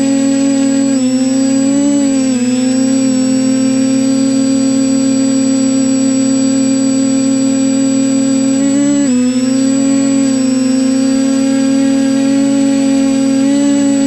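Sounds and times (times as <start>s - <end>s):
drone motors and propellers whining: 0.0s - 14.0s
thin high whine: 0.0s - 14.0s.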